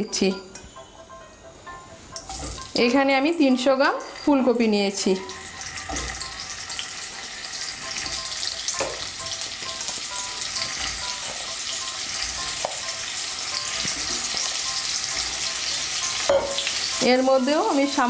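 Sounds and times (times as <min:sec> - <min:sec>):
vegetables sizzling in hot oil: 0:02.2 - 0:18.0.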